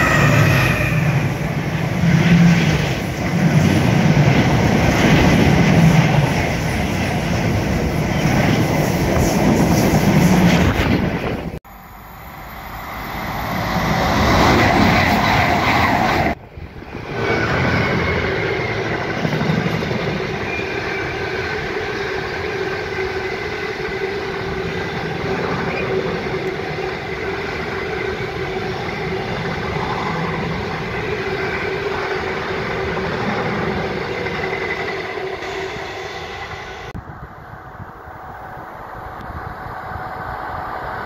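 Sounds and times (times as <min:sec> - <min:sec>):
train wagons rumbling and clattering: 0:00.0 - 0:37.0
diesel train passing: 0:00.0 - 0:41.0.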